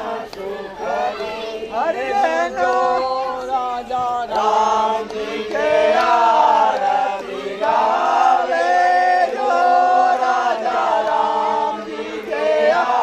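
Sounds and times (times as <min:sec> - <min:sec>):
voices chanting together: 0:00.0 - 0:13.0.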